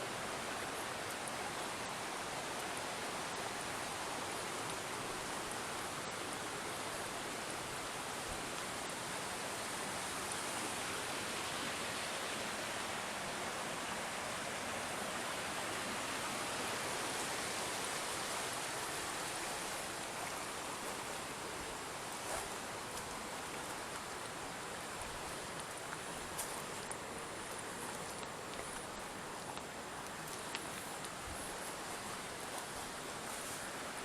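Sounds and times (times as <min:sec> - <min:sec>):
water rushing along canal: 0:00.0 - 0:34.0.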